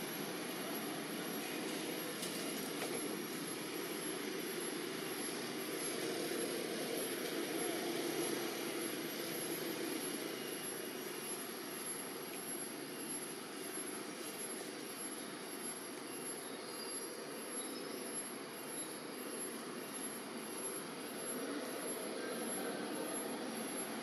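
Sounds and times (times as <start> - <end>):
droning background noise: 0.0 - 24.0.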